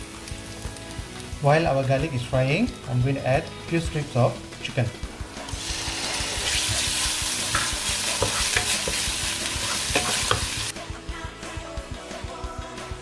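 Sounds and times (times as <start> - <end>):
food sizzling in hot oil: 0.0 - 10.8.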